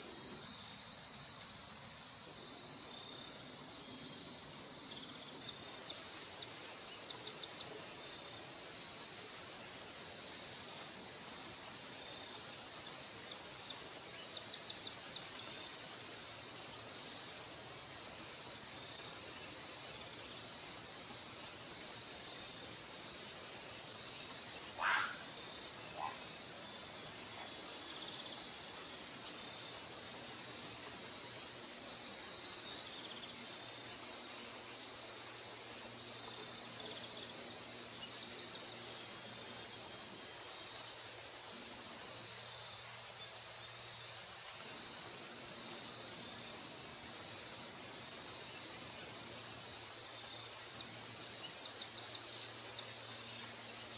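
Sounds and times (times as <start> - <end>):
faint hiss: 0.0 - 53.9
insects chirping: 0.0 - 53.9.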